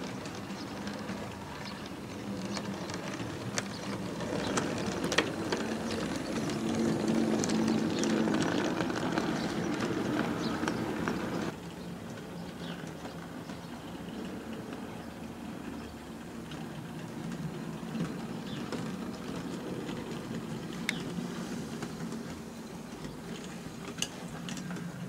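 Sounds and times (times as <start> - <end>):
model train motor hum: 0.0 - 25.0
wheels clicking over rail joints: 0.0 - 25.0.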